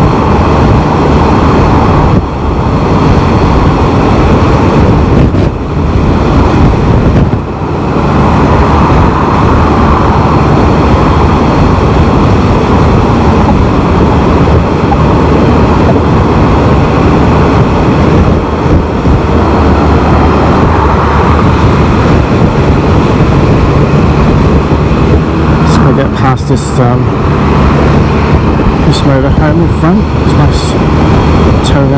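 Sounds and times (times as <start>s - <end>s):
motorcycle engine: 0.0s - 31.8s
wind and road noise: 0.0s - 31.9s.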